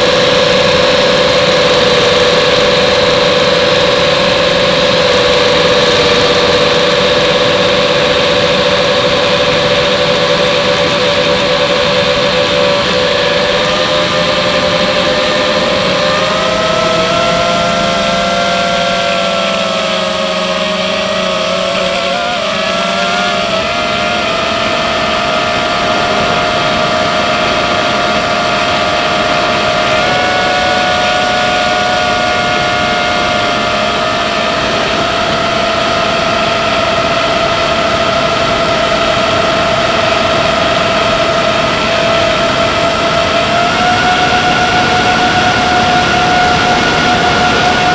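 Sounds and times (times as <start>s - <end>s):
electric motors and propellers whining: 0.0s - 47.9s.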